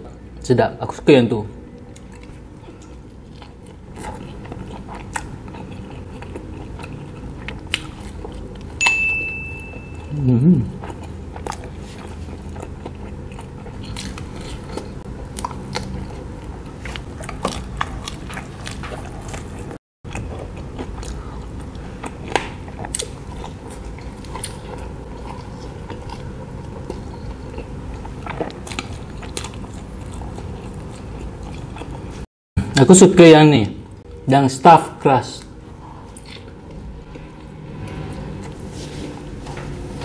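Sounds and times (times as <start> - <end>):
person chewing food: 1.7 - 8.8, 9.8 - 32.3, 35.4 - 39.4.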